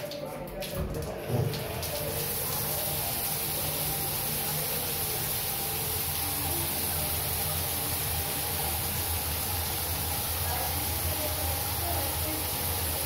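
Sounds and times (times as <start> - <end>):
shower water hissing: 0.9 - 13.0.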